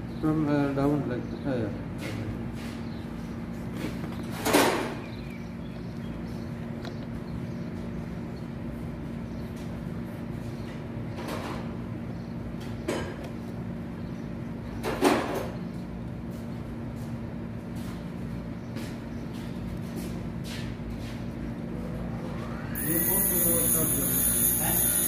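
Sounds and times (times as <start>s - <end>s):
low workshop hum: 0.0s - 25.0s.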